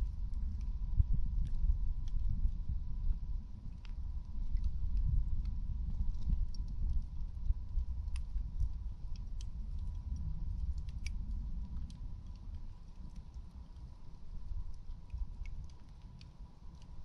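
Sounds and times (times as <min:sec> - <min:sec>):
low steady rumble: 0:00.0 - 0:17.0
campfire crackling and popping: 0:00.2 - 0:17.0.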